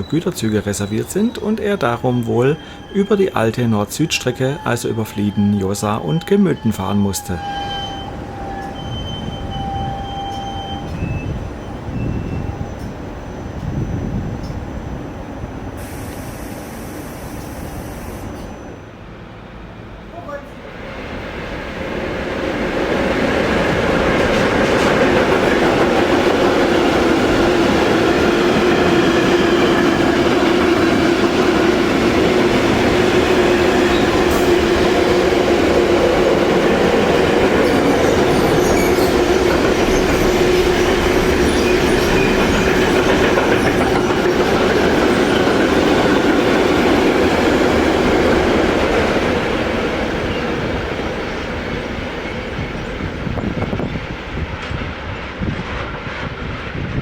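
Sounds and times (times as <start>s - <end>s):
train running on track: 0.0s - 57.0s.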